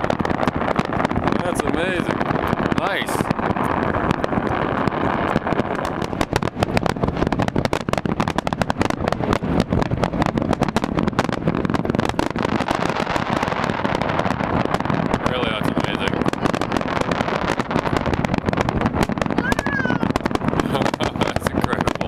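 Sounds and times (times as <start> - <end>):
fireworks bangs and crackles: 0.0 - 22.0
low rumble: 0.0 - 22.0.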